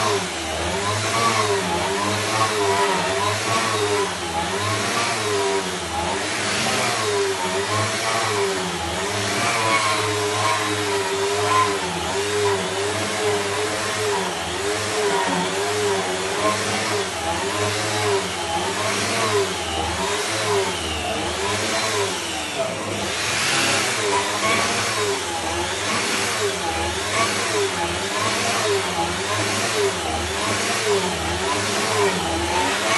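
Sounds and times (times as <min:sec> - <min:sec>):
floor sanding machine motor: 0:00.0 - 0:32.9.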